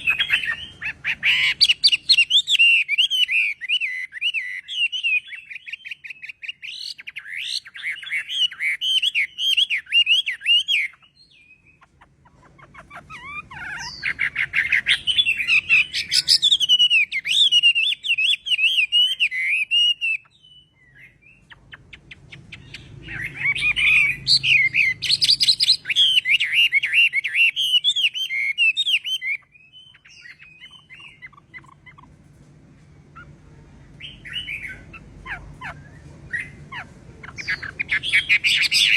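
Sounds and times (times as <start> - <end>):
bird singing whistled notes: 0.0 - 11.9, 13.1 - 32.0, 34.0 - 35.0
faint low hum: 0.0 - 38.9.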